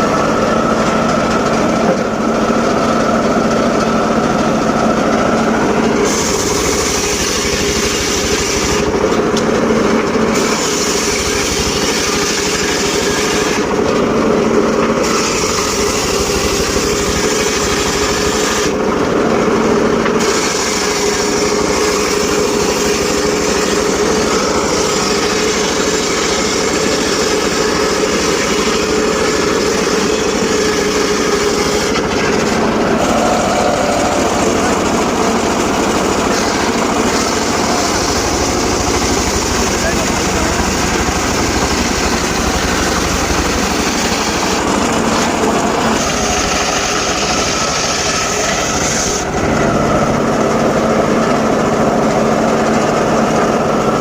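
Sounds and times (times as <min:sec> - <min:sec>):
circular sawmill sawing wood: 0:00.0 - 0:54.0.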